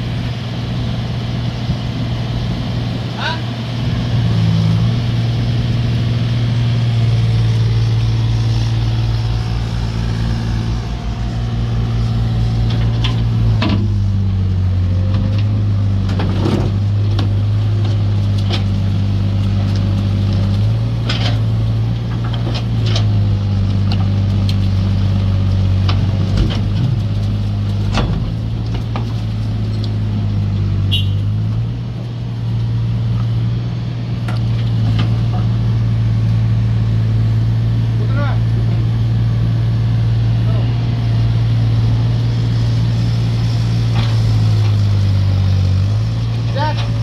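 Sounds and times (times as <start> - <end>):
excavator diesel engines running: 0.0 - 47.0.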